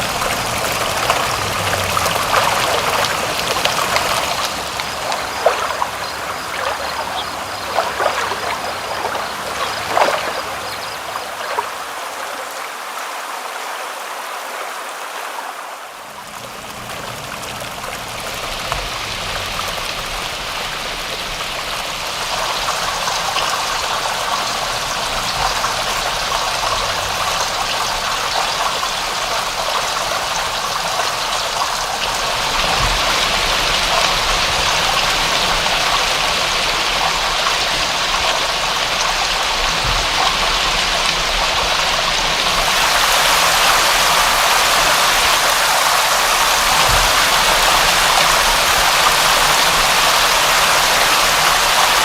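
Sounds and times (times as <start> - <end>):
dense rain hiss: 0.0 - 52.0.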